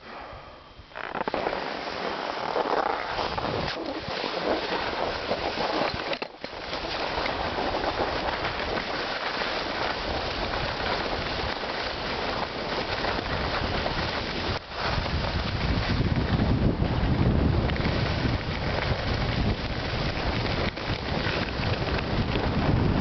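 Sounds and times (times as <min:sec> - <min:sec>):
wind buffeting the microphone: 0:00.8 - 0:23.0
skis scraping over snow: 0:00.9 - 0:23.0.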